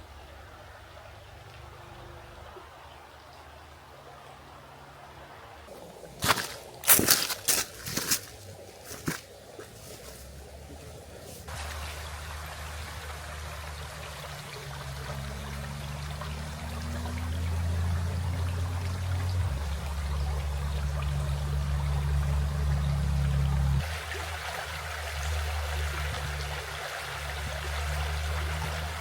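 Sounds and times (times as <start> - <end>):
flowing river water rushing: 0.0 - 29.0.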